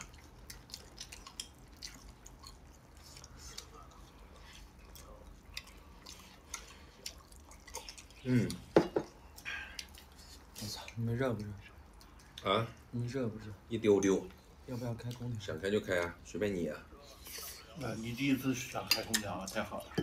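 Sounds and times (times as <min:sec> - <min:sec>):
eating and drinking sounds: 0:00.0 - 0:20.0
low steady hum: 0:00.0 - 0:20.0.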